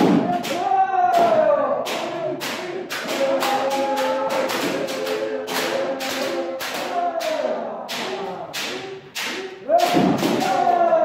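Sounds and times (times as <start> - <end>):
bamboo swords striking: 0.0 - 10.9
people shouting: 0.0 - 11.0.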